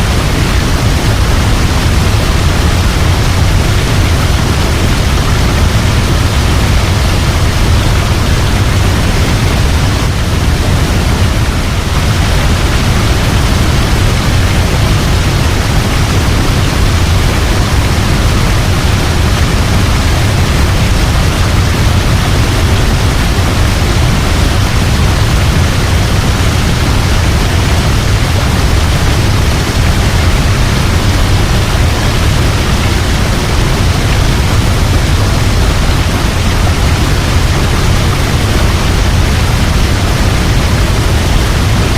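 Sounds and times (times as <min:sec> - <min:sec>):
waterfall crashing: 0:00.0 - 0:41.9.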